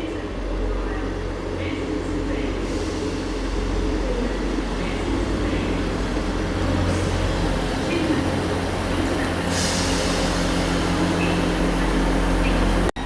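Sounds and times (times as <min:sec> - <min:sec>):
train diesel engines humming: 0:00.0 - 0:13.0.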